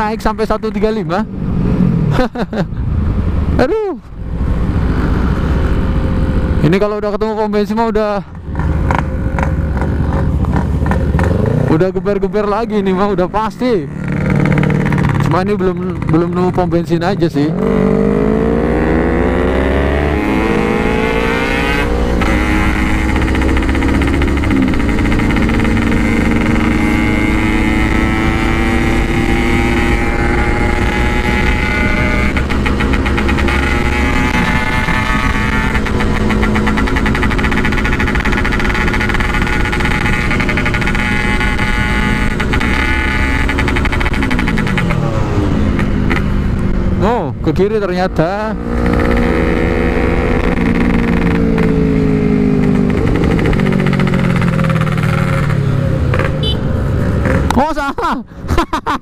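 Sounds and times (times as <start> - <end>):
motorcycle engine running: 8.2 - 47.4, 48.1 - 57.6.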